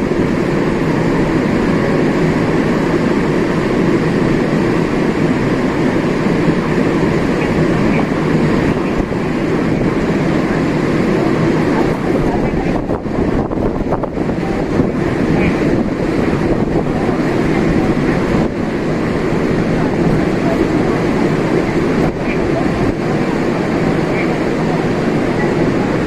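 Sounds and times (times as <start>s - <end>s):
ferry engine low drone: 0.0s - 26.0s
rushing water: 0.0s - 26.0s
rushing wind: 0.0s - 26.0s.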